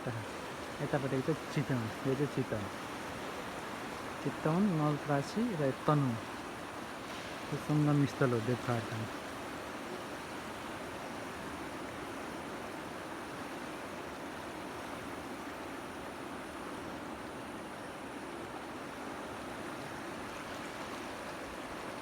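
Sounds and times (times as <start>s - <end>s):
flooded river rushing: 0.0s - 22.0s.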